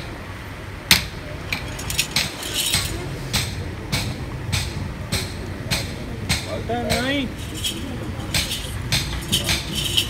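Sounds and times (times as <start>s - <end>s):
hammer ringing on metal: 1.9s - 10.0s.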